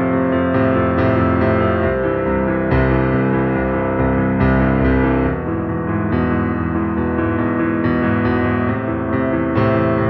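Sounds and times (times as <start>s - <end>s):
instrumental music with held chords: 0.0s - 10.0s.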